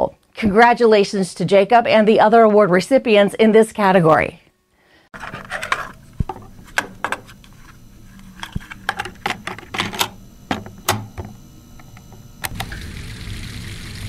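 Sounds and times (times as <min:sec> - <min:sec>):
steady low hum: 0:01.9 - 0:14.0.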